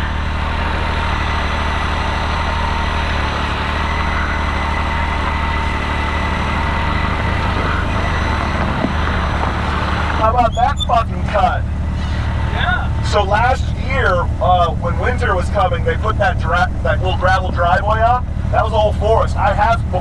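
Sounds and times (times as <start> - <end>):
engine running with high whine: 0.0 - 20.0.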